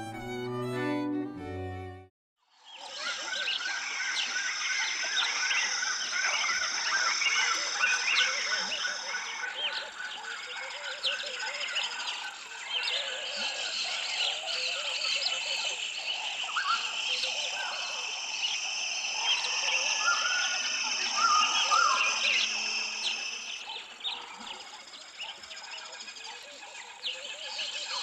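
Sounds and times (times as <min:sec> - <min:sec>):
recorded bird calls and chirps: 0:02.6 - 0:28.0.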